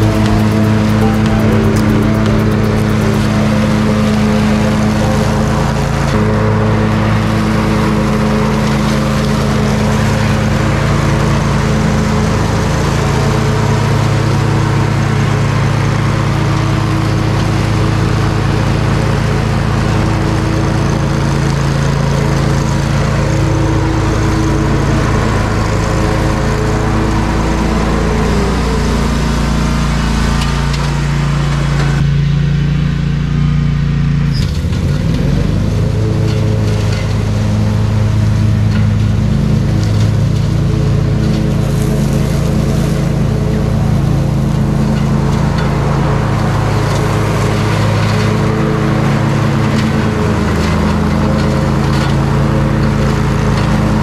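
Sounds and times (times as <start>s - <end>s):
mower engine running: 0.0s - 54.0s.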